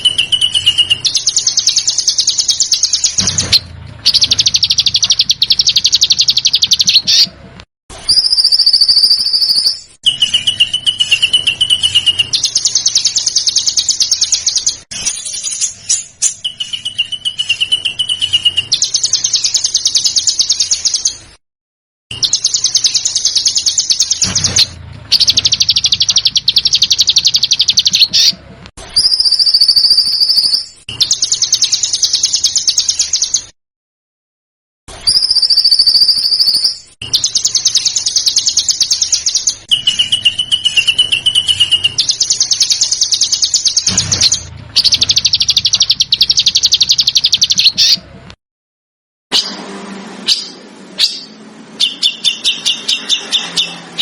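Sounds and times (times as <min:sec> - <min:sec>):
high bird notes: 0:00.0 - 0:07.3, 0:08.0 - 0:21.2, 0:22.1 - 0:33.5, 0:35.0 - 0:48.0
songbird rattling trills: 0:00.0 - 0:07.3, 0:08.1 - 0:21.2, 0:22.1 - 0:28.3, 0:29.0 - 0:33.5, 0:35.0 - 0:48.0.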